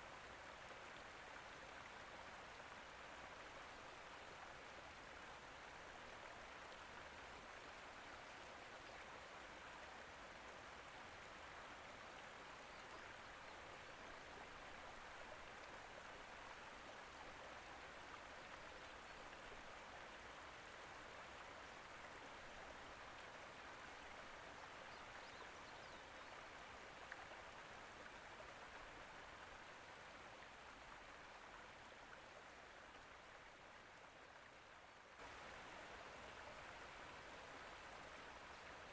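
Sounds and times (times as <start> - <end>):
faint rush of water: 0.0 - 38.9.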